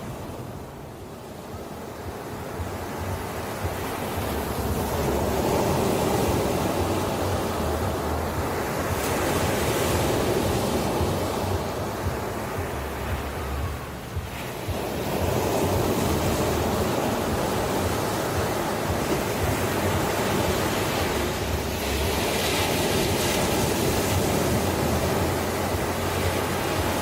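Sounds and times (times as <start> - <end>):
ocean waves washing on shore: 0.0 - 27.0.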